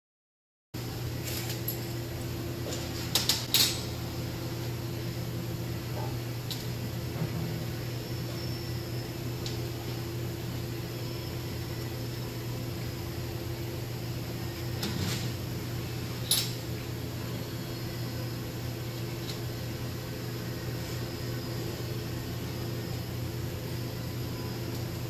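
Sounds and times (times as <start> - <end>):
workshop equipment humming: 0.8 - 25.0.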